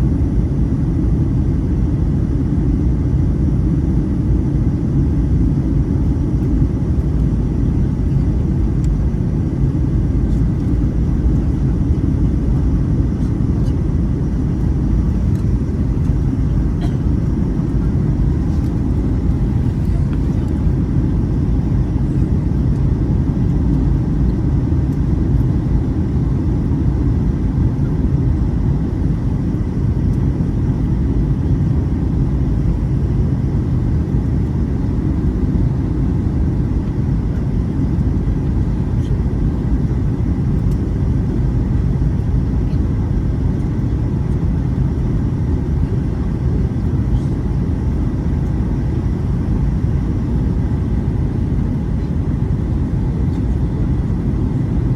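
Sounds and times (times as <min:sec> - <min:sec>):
jet airliner cabin roar: 0:00.0 - 0:54.9.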